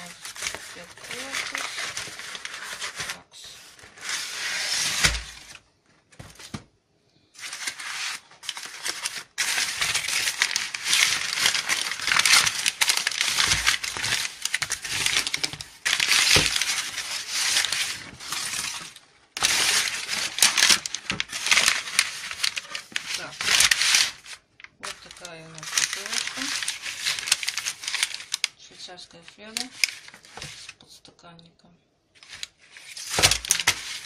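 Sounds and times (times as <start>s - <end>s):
paper and plastic crumpling: 0.0s - 6.6s, 7.4s - 30.8s, 32.2s - 34.0s.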